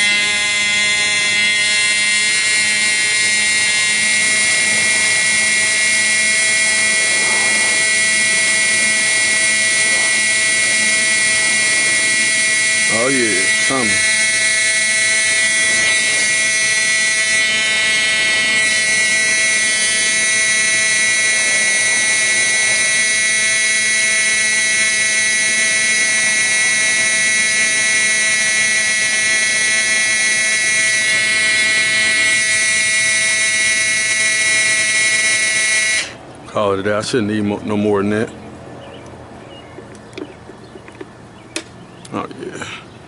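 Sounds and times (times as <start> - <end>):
electric fuel pump whining: 0.0 - 36.4.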